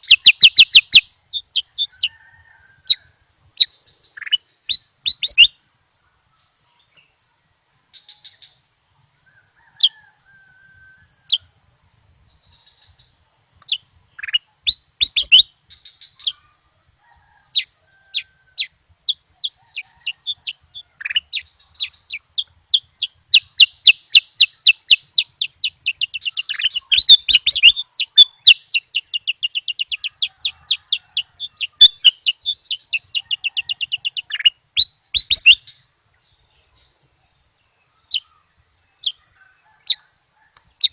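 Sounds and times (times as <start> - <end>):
bird chirping: 0.0 - 7.2, 12.2 - 40.9.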